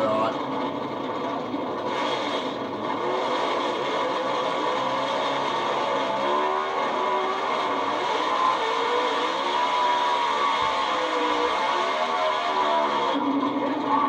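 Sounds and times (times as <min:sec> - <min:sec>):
drag truck engines revving: 0:00.0 - 0:14.0.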